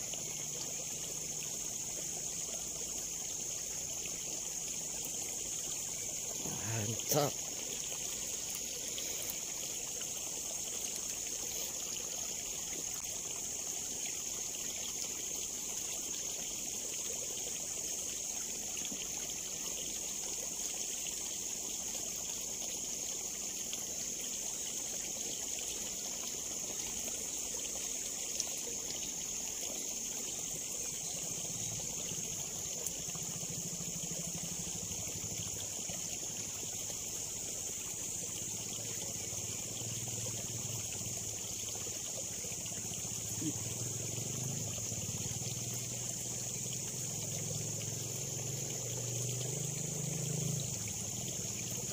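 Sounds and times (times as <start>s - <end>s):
water trickling in a ditch: 0.0s - 51.9s.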